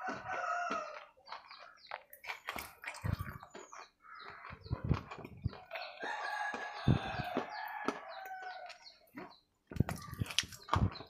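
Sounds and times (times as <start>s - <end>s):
chewing and crunching: 0.0s - 11.0s.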